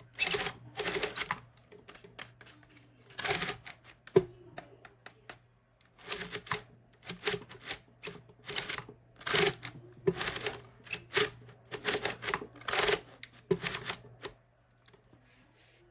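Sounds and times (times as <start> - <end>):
faint low hum: 0.0 - 15.9.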